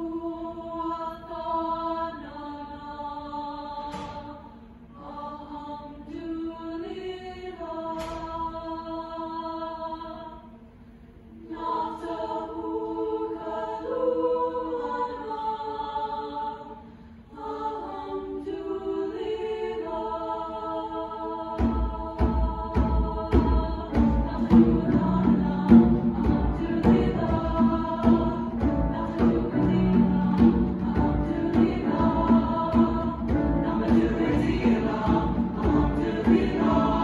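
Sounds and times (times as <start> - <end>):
choir singing held chords: 0.0 - 37.0.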